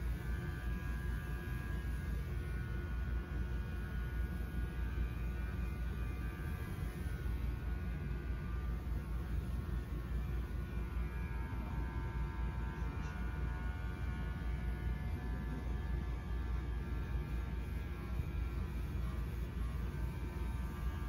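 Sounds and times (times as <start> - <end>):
faint high whine: 0.0 - 21.0
low electric hum: 0.0 - 21.0.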